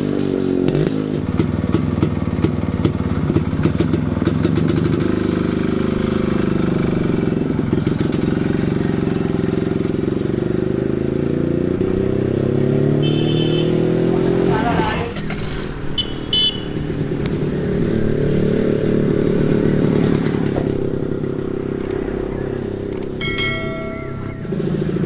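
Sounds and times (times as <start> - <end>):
two-stroke motorcycle engine running: 0.0 - 14.5, 16.0 - 25.0.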